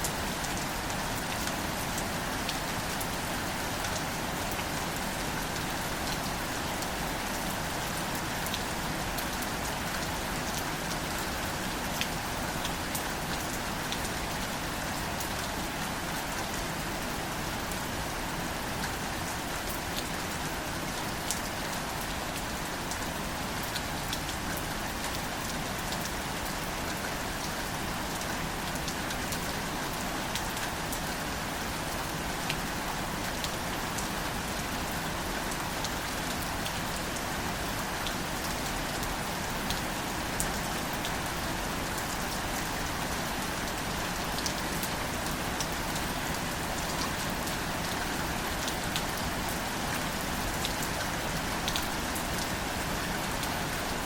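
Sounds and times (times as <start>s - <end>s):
gentle rain on foliage: 0.0s - 54.0s.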